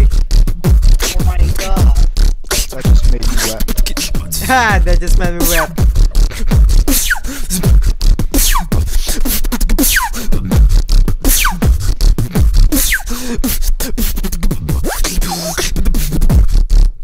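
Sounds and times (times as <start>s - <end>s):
person beatboxing: 0.0s - 17.0s.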